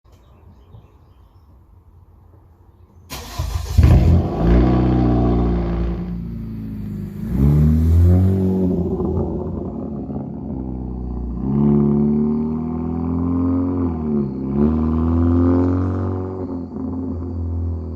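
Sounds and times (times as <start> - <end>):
car engine starting and revving: 3.1 - 17.9.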